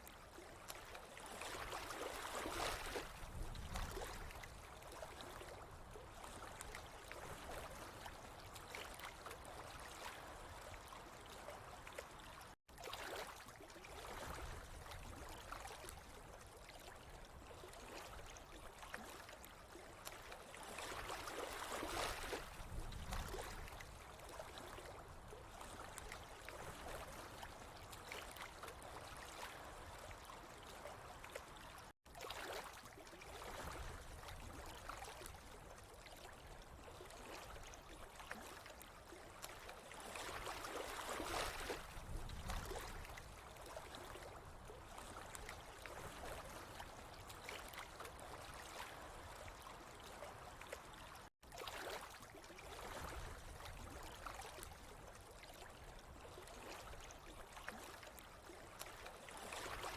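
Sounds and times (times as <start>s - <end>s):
water trickling and gurgling: 0.0s - 59.9s.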